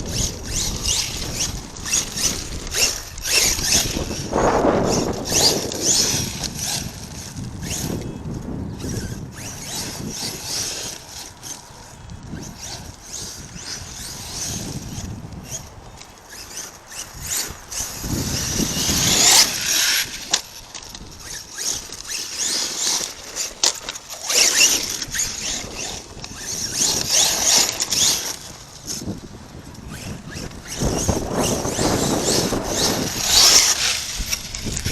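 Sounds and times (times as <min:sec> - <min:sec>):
rc truck motor whining: 0:00.0 - 0:34.9.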